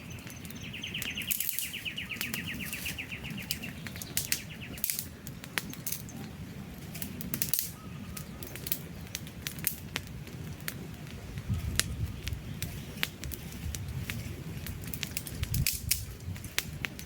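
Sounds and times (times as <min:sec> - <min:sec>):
campfire crackling: 0:00.0 - 0:17.0
low rumble of flames: 0:00.0 - 0:17.0
sharp pops and snaps of fire: 0:00.0 - 0:17.0.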